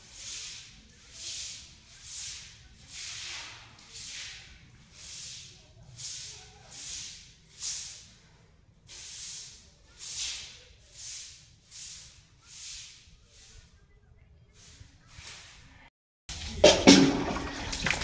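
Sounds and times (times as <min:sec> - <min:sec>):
hand broom sweeping wet floor: 0:00.0 - 0:13.8, 0:14.5 - 0:15.7.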